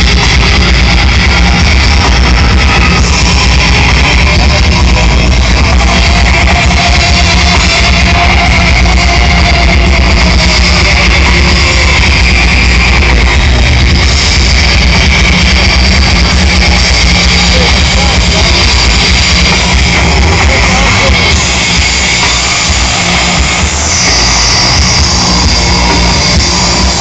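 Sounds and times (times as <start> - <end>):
distorted live rock music: 0.0 - 27.0.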